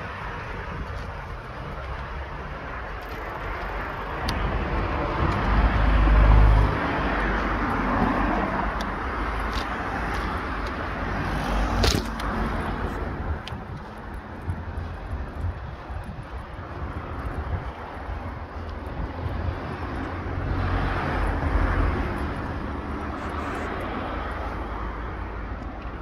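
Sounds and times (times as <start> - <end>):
car passing: 0.0 - 26.0.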